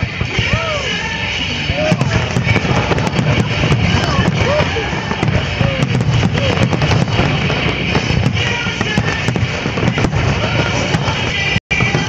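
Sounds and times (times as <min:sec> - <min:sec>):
fireworks cracking and banging: 0:00.0 - 0:12.0
music playing: 0:00.0 - 0:12.0.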